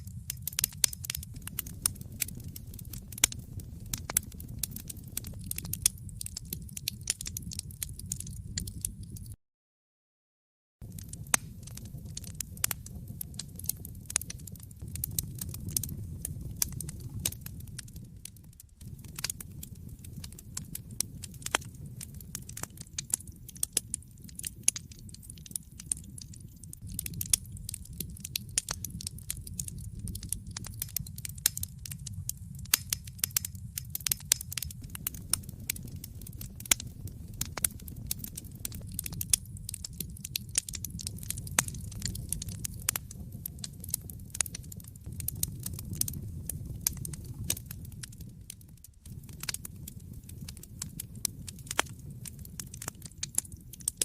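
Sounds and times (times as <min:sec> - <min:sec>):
fireplace fire crackling: 0:00.0 - 0:09.4, 0:10.8 - 0:54.0
low rumble of flames: 0:00.0 - 0:09.4, 0:10.8 - 0:54.0.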